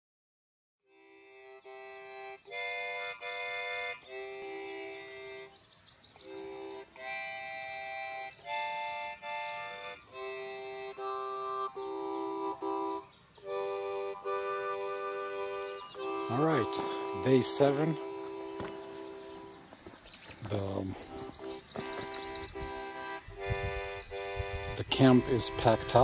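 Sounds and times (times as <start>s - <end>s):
solo harmonica: 0.9s - 26.0s.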